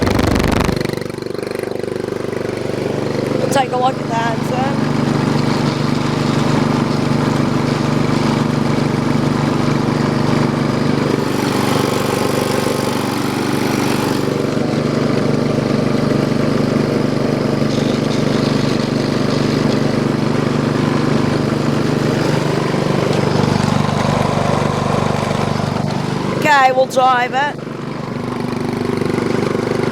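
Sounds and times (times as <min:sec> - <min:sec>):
small engine running: 0:00.0 - 0:29.9.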